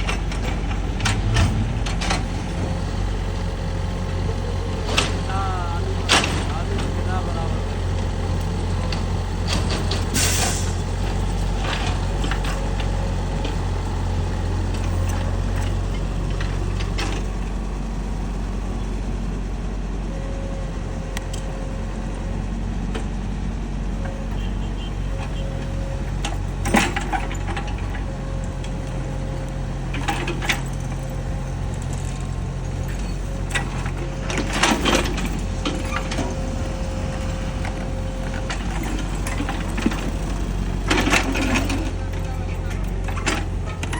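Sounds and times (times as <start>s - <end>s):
excavator engine running: 0.0s - 43.9s.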